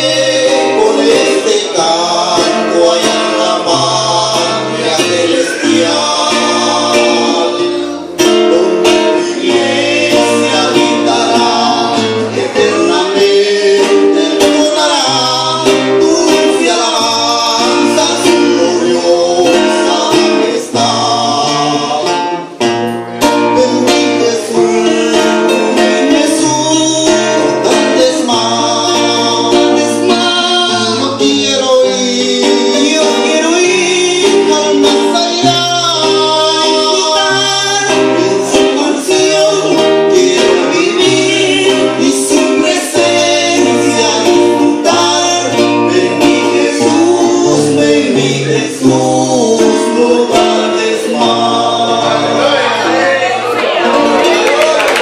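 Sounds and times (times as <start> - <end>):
men singing a worship song: 0.0 - 22.5, 23.4 - 55.0
acoustic guitars strumming: 0.0 - 55.0.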